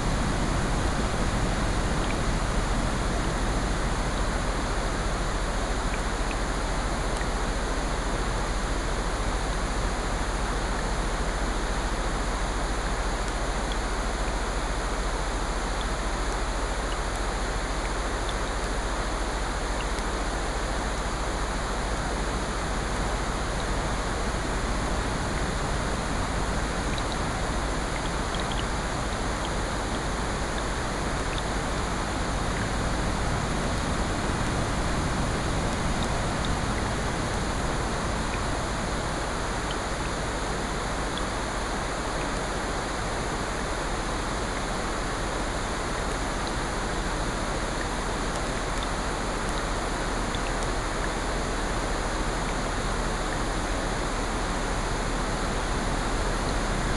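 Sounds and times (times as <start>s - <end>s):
rain: 0.0s - 56.9s.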